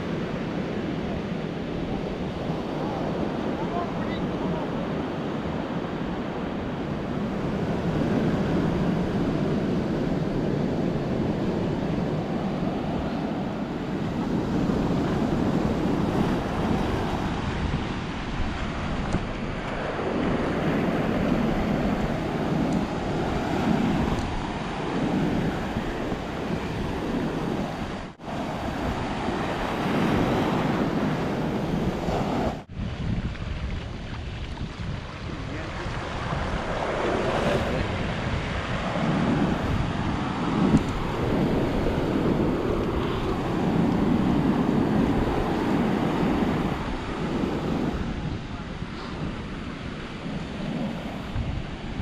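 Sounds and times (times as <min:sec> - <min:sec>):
surf washing onto beach: 0:00.0 - 0:52.0
wind buffeting microphone: 0:00.0 - 0:52.0.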